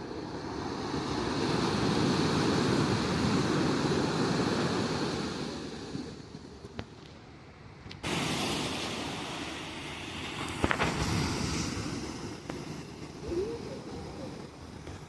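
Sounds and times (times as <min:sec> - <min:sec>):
ocean wave breaking: 0:00.0 - 0:06.6, 0:08.0 - 0:15.0
surf washing: 0:00.0 - 0:15.0.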